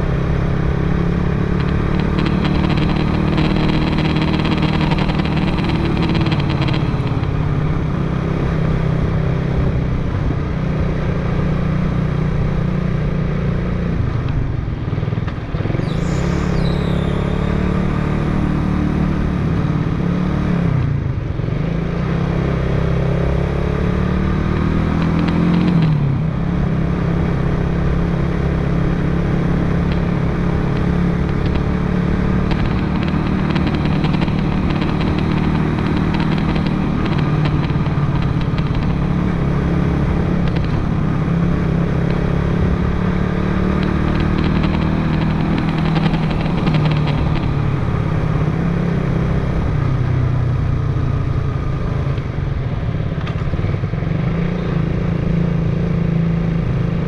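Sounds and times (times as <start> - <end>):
motorcycle engine running: 0.0 - 57.0
wind and road rush: 0.0 - 57.0.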